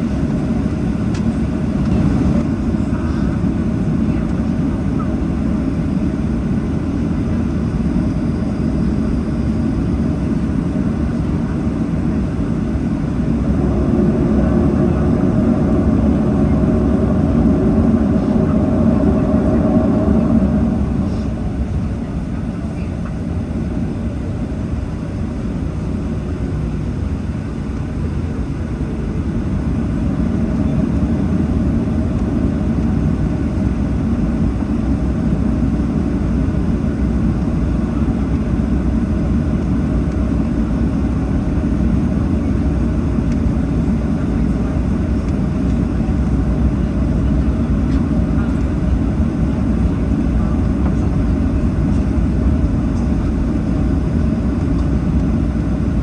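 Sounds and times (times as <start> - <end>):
jet engines rumbling from cabin: 0.0 - 56.0.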